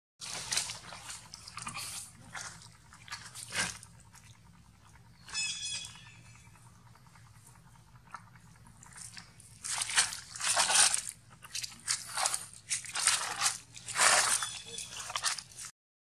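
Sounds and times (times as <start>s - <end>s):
monkey chewing and crunching food: 0.2s - 15.8s.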